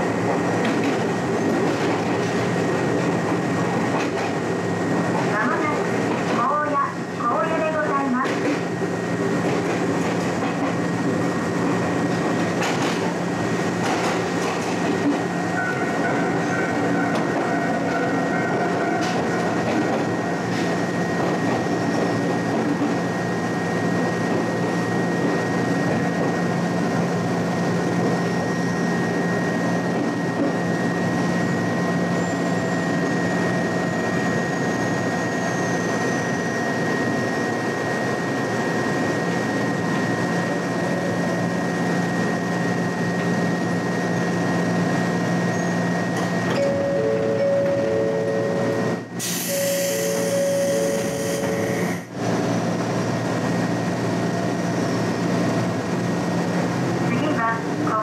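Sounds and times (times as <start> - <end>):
electric train hum and whine: 0.0 - 58.0.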